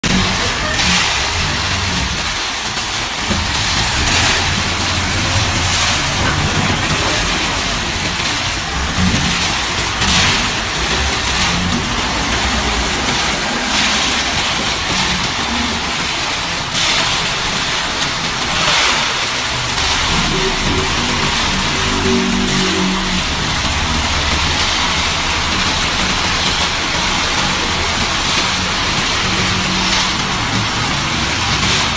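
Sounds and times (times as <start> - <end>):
diesel truck engine under load: 0.0 - 31.9.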